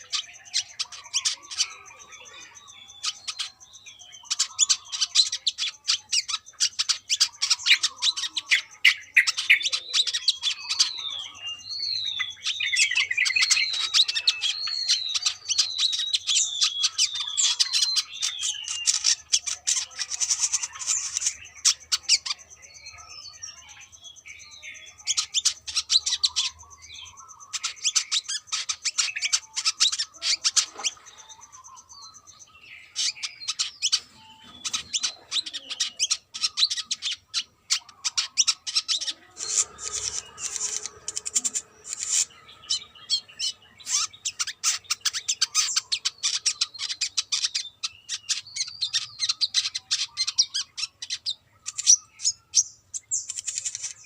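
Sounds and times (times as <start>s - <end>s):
sunbird singing high chirps: 0.0s - 54.0s.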